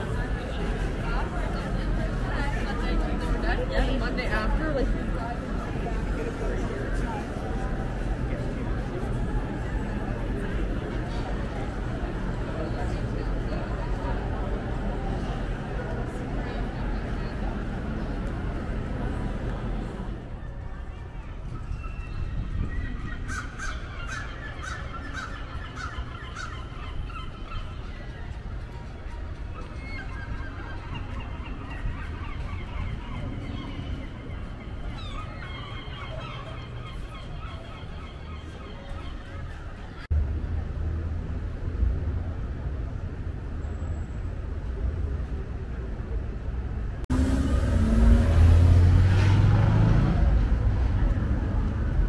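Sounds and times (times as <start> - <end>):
city traffic rumble: 0.0 - 52.0.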